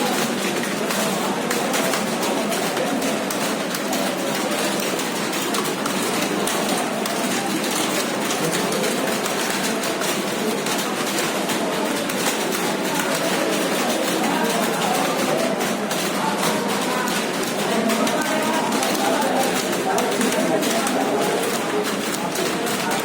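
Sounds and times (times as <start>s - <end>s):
keyboards typing clatter: 0.0s - 23.0s.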